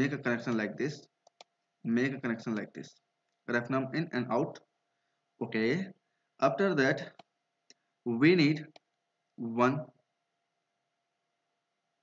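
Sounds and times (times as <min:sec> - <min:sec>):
faint recording hiss: 0:00.0 - 0:12.0.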